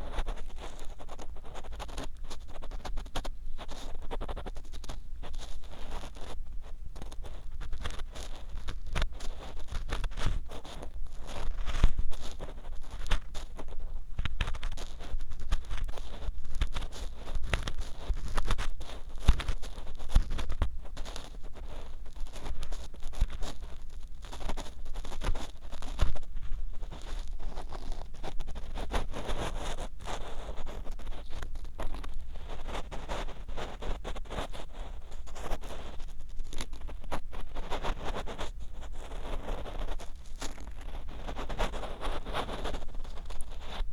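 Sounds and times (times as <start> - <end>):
ear pick scraping microphone: 7.0 - 43.9.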